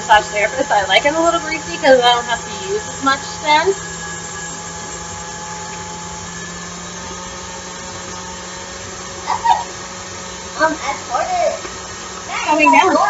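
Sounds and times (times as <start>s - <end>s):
electric mixer whirring: 0.0s - 13.0s.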